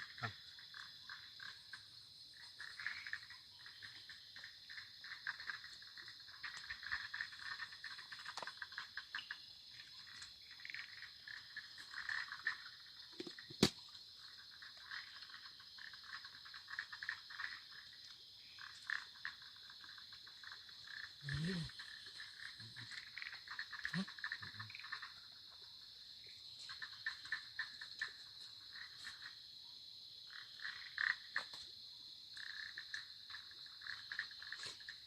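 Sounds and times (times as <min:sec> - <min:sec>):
frogs calling: 0:00.0 - 0:35.0
high insect drone: 0:00.0 - 0:35.0.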